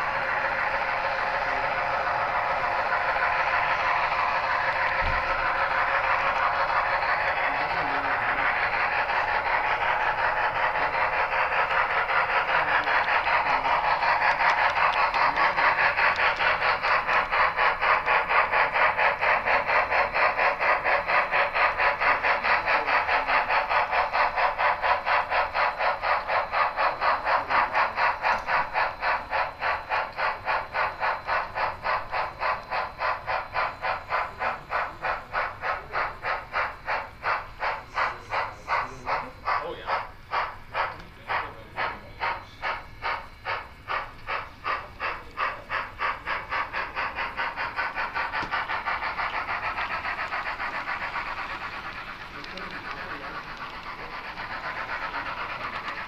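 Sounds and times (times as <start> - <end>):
model steam locomotive chuffing: 0.0 - 56.0.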